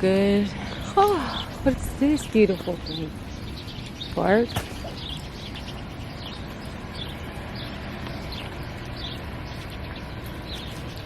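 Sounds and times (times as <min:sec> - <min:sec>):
outdoor background hiss: 0:00.0 - 0:11.0
small bird chirping: 0:00.4 - 0:11.0.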